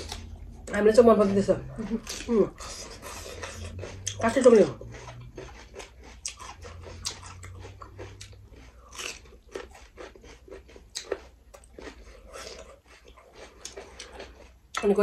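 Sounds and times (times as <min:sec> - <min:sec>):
chewing and crunching food: 0:00.0 - 0:15.0.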